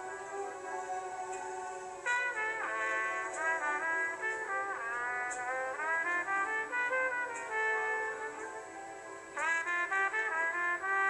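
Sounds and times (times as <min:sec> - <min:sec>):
easy listening brass music on tv: 0:00.0 - 0:11.0.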